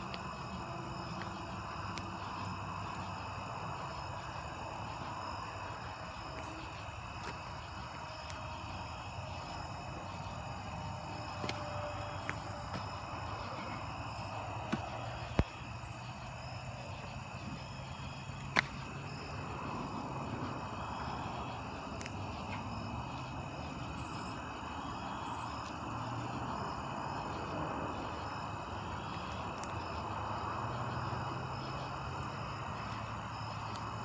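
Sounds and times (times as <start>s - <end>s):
crickets and insects chirping: 0.0s - 34.0s.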